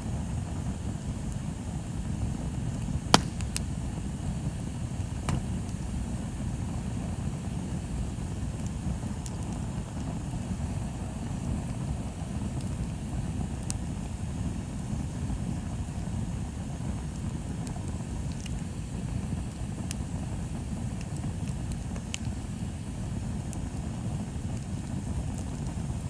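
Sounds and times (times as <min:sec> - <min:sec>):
bonfire low rumble: 0:00.0 - 0:26.0
burning wood crackles and pops: 0:00.1 - 0:26.0.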